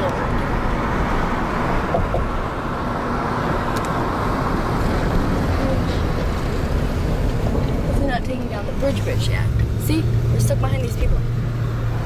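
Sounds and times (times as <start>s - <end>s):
car road noise: 0.0s - 12.0s
low wind rumble: 0.0s - 12.0s.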